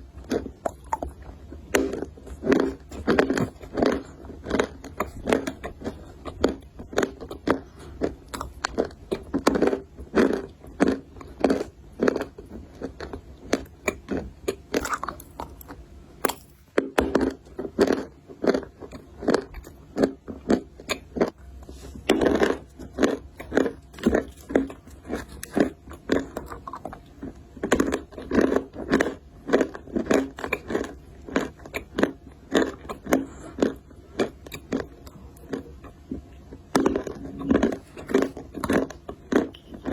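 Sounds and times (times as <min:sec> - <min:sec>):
chewing brittle clay crunches: 0:00.0 - 0:39.9.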